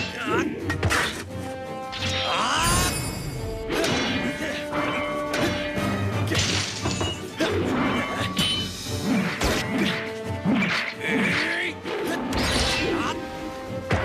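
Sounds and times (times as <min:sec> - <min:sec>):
dramatic background music: 0:00.0 - 0:14.0
swords clashing: 0:01.9 - 0:13.1.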